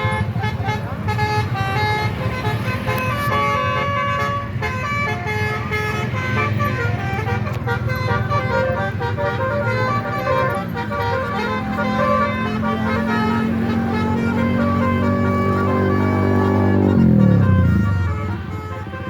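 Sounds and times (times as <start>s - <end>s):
low traffic rumble: 0.0s - 19.0s
musical bus air horns: 0.0s - 19.0s.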